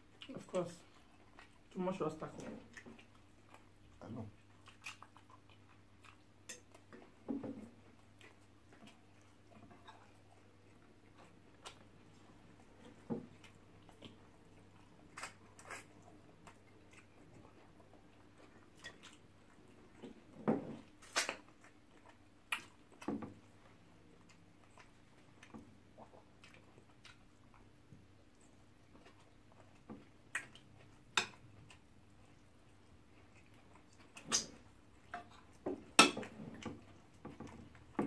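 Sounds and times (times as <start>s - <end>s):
chewing and wet mouth smacks: 0.1s - 7.2s, 7.9s - 35.6s.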